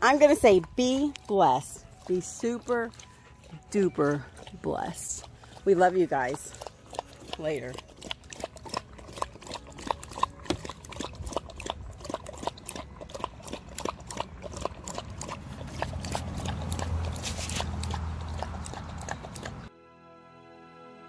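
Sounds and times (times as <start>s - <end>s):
dog lapping milk: 0.0s - 19.7s.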